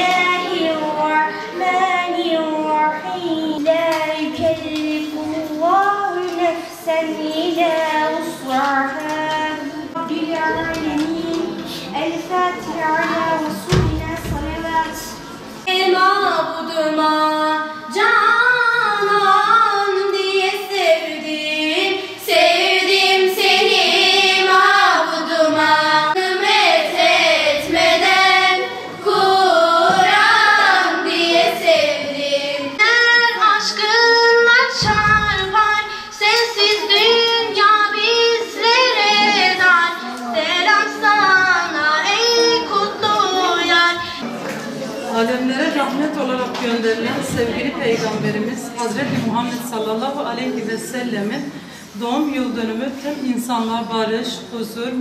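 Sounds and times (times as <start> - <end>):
girl singing into microphone: 0.0 - 44.3
girls singing devotional song: 0.0 - 50.3.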